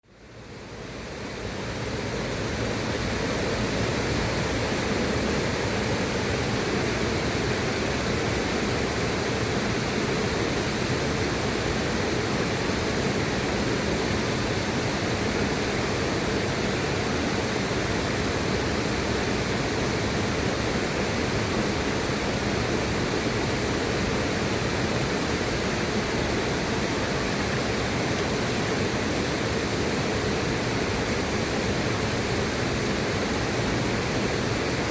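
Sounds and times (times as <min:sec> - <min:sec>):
river water rushing: 0:00.4 - 0:34.9.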